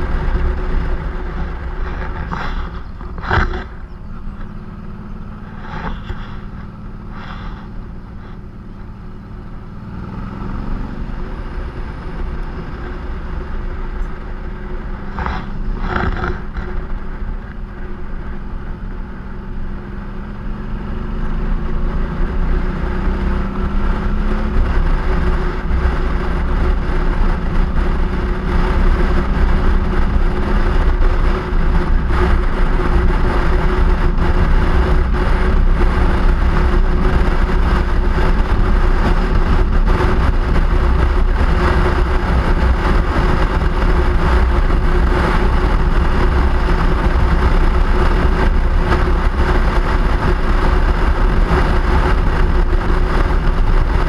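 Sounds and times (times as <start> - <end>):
wind and road noise rumble: 0.0 - 54.0.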